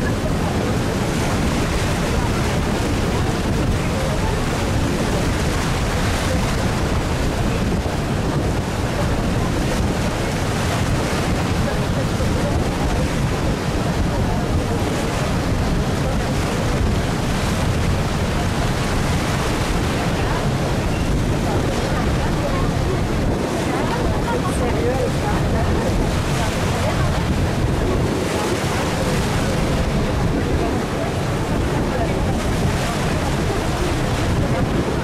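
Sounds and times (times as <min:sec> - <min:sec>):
water washing along a boat: 0:00.0 - 0:35.0
wind on microphone: 0:00.0 - 0:35.0.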